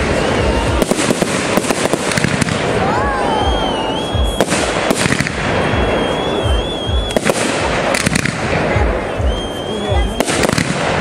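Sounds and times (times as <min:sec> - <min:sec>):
firework bangs and booms: 0:00.0 - 0:11.0
firework crackling: 0:00.0 - 0:11.0
whistling fireworks: 0:00.0 - 0:11.0.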